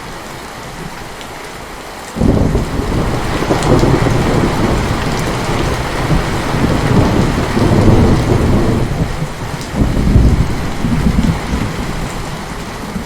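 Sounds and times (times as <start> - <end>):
heavy rain falling: 0.0 - 13.0
rolling thunder rumble: 2.2 - 13.0.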